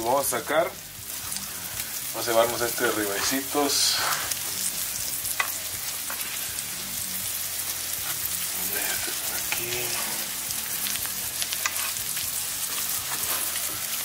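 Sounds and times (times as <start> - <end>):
food sizzling on a grill: 0.0 - 14.0.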